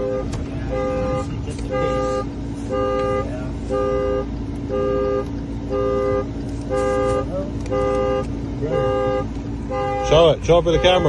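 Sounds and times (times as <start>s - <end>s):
two-note car horn alarm: 0.0s - 11.0s.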